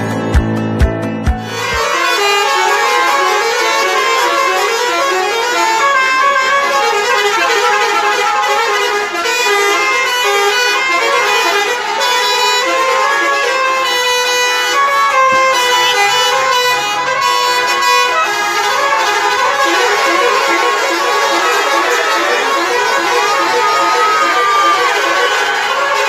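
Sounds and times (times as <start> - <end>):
musical air horns blaring: 1.2 - 26.0.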